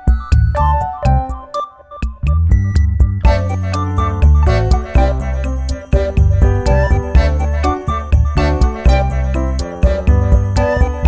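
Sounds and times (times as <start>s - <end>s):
upbeat children's synthesizer music: 0.0s - 11.0s.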